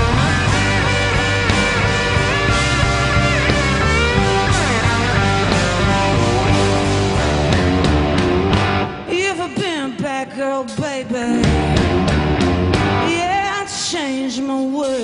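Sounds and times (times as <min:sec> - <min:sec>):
blues rock band playing: 0:00.0 - 0:09.4, 0:11.1 - 0:13.9
bending electric guitar line: 0:00.0 - 0:09.7, 0:11.1 - 0:13.6.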